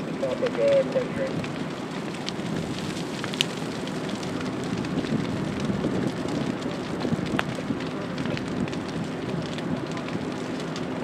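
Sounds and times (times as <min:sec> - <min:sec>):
burning brush crackling: 0:00.0 - 0:11.0
fire popping and snapping: 0:00.0 - 0:11.0.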